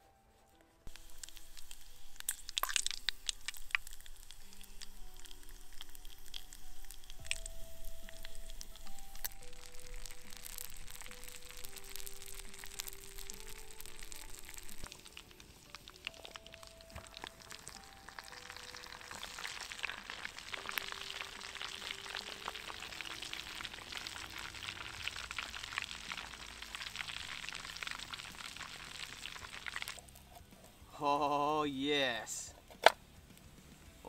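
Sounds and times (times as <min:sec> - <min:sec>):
soft background music: 0:00.0 - 0:34.0
meat deep-frying in fat: 0:00.9 - 0:30.3.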